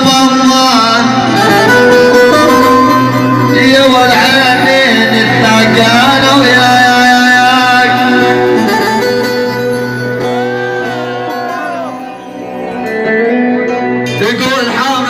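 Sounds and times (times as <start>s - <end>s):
instrumental middle eastern music: 0.0s - 15.0s.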